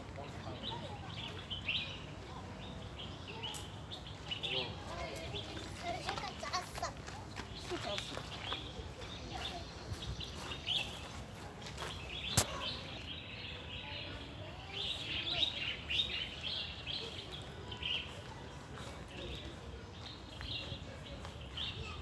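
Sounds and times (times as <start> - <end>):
small birds chirping: 0.1 - 22.0.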